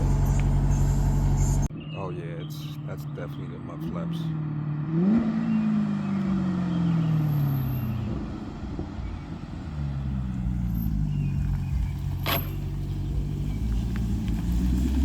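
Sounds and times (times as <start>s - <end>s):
car engine revving: 0.0s - 1.7s, 3.7s - 15.0s.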